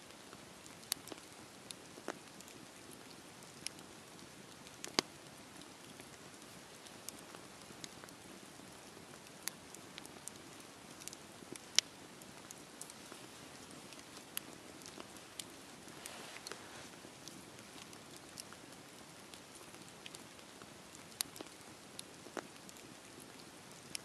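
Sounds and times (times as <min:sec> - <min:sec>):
fire crackles and pops: 0:00.1 - 0:24.0
wood fire hissing: 0:00.6 - 0:24.0.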